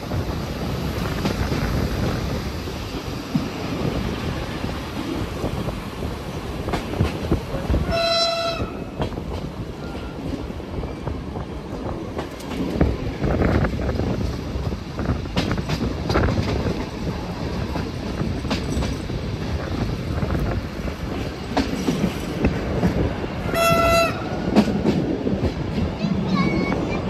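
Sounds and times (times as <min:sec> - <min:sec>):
train wheels clicking over rails: 0:00.0 - 0:27.0.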